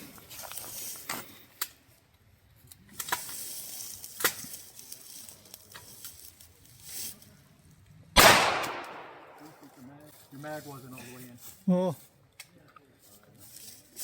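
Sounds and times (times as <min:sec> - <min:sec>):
faint rustling hiss: 0:00.0 - 0:14.0.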